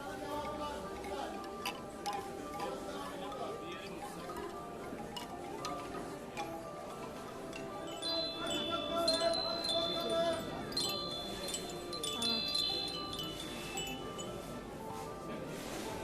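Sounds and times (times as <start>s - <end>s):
wind chimes ringing: 0.3s - 15.2s.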